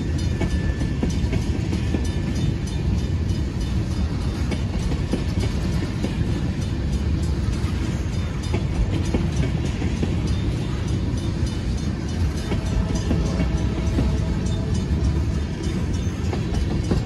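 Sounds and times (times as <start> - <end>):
train clicks and clanks: 0.0 - 17.0
train wheels rumbling on rails: 0.0 - 17.0.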